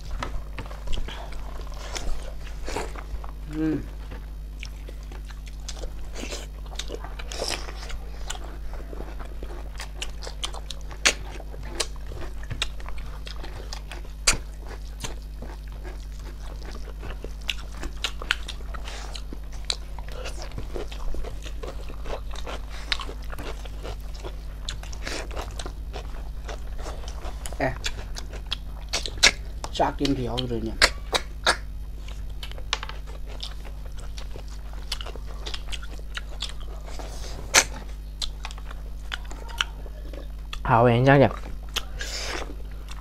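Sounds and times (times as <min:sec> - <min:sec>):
chewing and mouth clicks: 0:00.0 - 0:43.0
steady low hum: 0:00.0 - 0:43.0.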